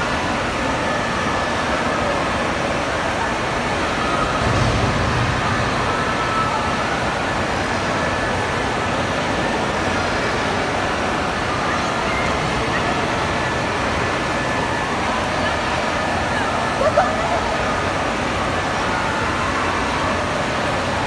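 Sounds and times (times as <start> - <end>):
faint shouts and chatter: 0.0 - 21.0
wave pool water splashing: 0.0 - 21.0.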